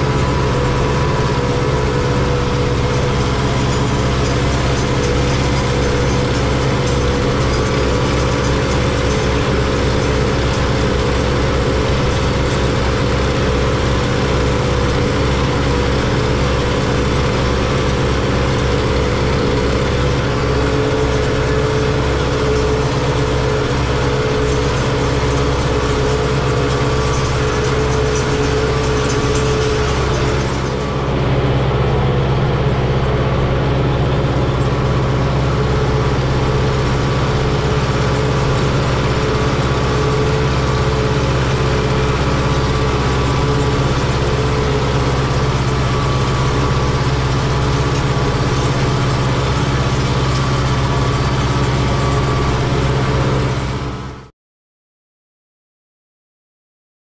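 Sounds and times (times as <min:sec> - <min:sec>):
diesel engine running: 0:00.0 - 0:54.3.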